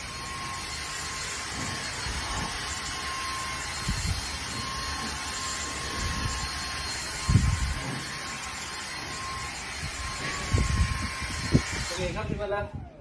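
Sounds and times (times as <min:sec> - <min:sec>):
handheld vacuum cleaner running: 0:00.0 - 0:13.0.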